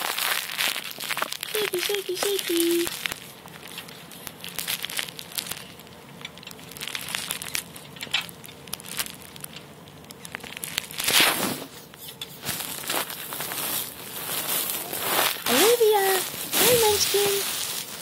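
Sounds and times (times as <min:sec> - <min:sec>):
fabric rustling and crinkling: 0:00.0 - 0:18.0.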